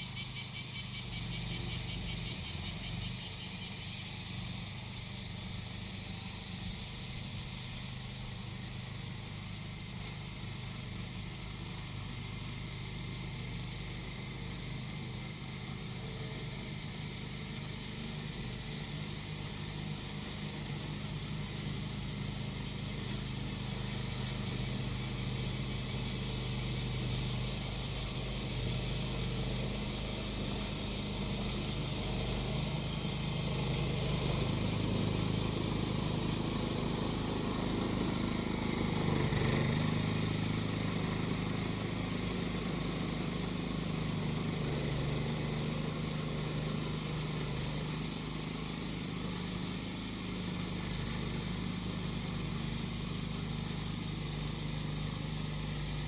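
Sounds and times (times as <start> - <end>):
cicadas buzzing: 0.0 - 56.0
lawn mower engine running: 0.0 - 56.0.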